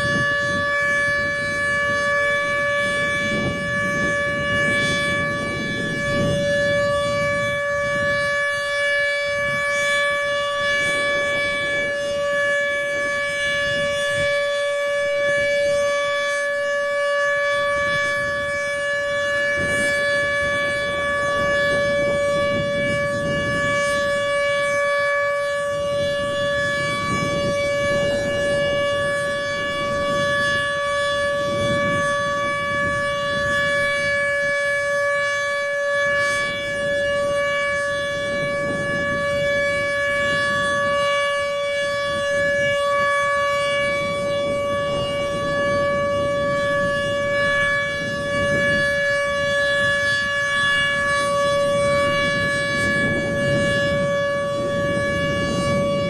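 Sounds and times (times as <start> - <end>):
warning siren steady tone: 0.0 - 56.0.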